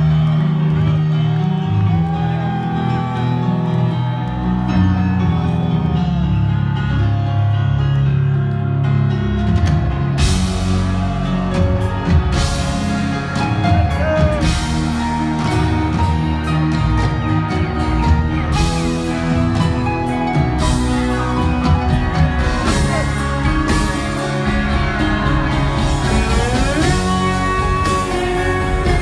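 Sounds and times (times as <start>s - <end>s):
keyboards and guitar: 0.0s - 29.0s.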